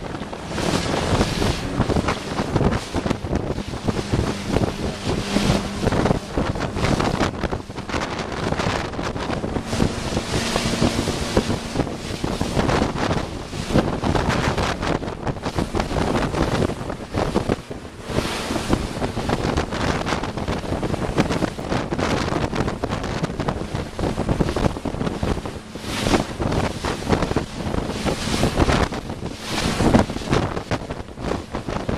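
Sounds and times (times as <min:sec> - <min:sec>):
water rushing past a boat: 0:00.0 - 0:31.9
wind buffeting the microphone: 0:00.0 - 0:31.9.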